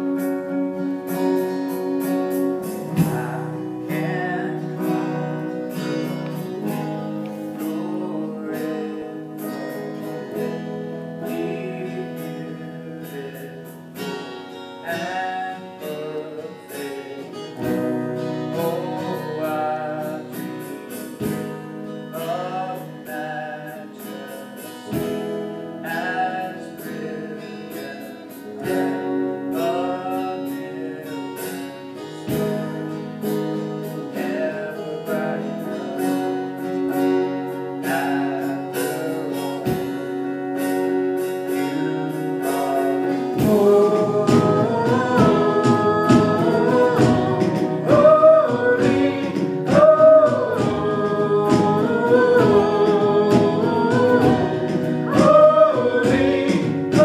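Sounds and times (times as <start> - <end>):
guitars strumming chords: 0.0 - 57.0
person singing: 0.0 - 57.0.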